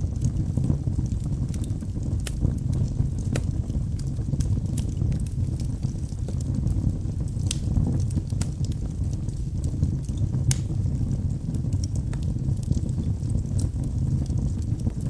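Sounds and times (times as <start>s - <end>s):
logs crackling and popping: 0.0s - 15.0s
wood fire rumbling: 0.0s - 15.0s.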